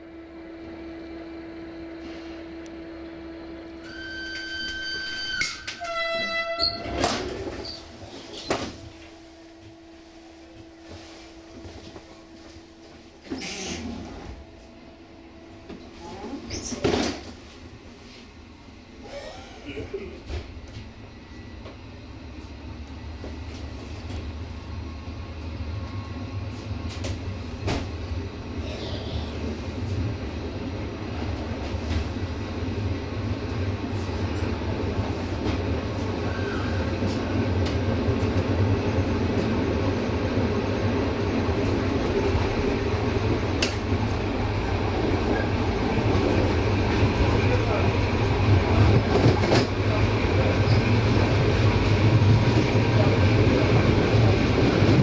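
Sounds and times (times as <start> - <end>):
train rumbling on track: 0.0 - 55.0.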